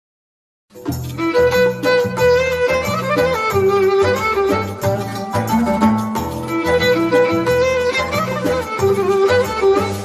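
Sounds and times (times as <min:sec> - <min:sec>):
violin melody: 0:00.8 - 0:10.0.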